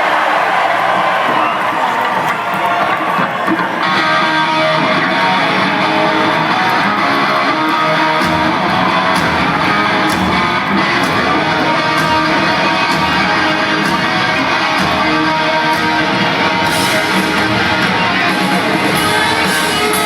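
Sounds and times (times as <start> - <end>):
drums: 0.0 - 20.0
bass guitar: 0.9 - 20.0
electric guitars playing riff: 1.6 - 20.0.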